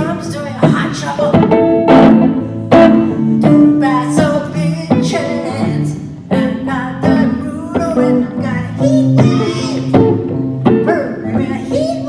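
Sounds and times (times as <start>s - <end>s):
woman singing into a microphone: 0.0s - 1.7s, 3.0s - 10.1s, 10.8s - 12.0s
electric guitar strumming chords: 0.0s - 12.0s.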